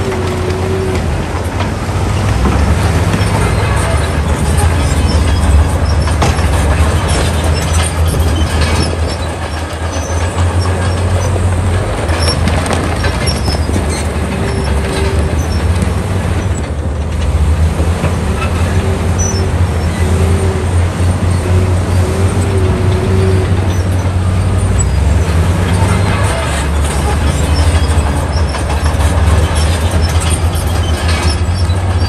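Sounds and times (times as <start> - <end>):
diesel engine drone: 0.0 - 32.0
machinery clanks and scraping: 0.0 - 32.0.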